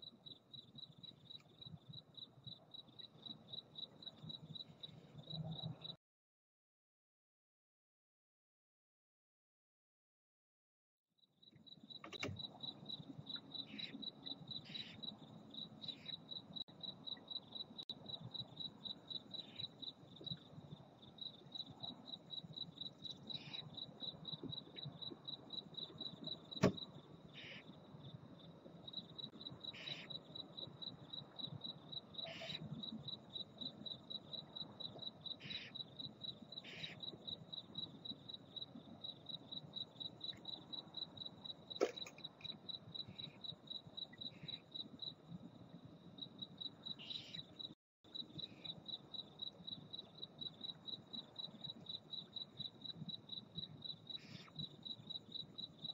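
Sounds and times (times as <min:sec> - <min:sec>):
cricket chirping trill: 0:00.0 - 0:06.0, 0:11.2 - 0:55.9.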